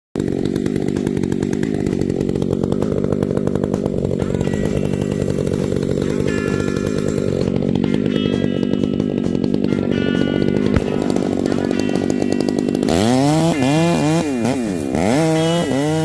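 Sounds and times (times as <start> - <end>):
chainsaw running under throttle: 0.2 - 16.0.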